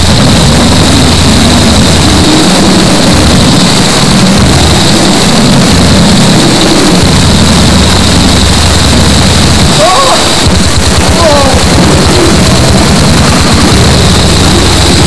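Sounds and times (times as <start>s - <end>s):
harsh distorted static noise: 0.0s - 15.0s
low rumble: 0.0s - 15.0s.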